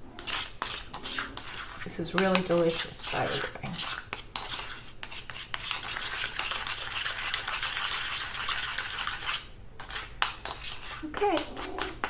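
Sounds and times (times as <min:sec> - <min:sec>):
spoon scraping glaze in dish: 0:00.1 - 0:12.0.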